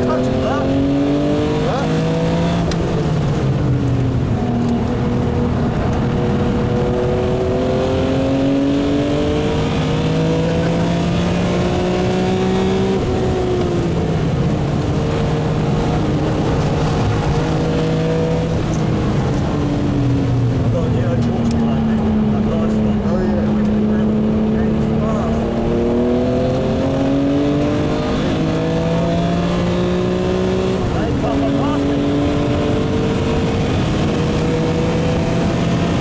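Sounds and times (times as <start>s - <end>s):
car engine revving on track: 0.0s - 36.0s.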